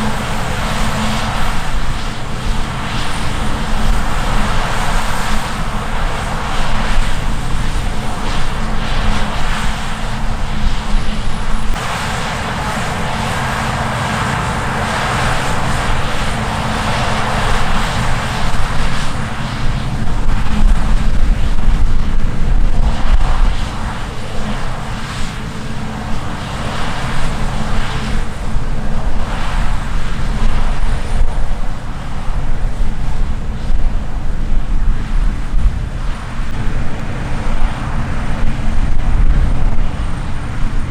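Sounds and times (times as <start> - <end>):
diesel engine drone: 0.0 - 40.9
machinery rushing noise: 0.0 - 40.9.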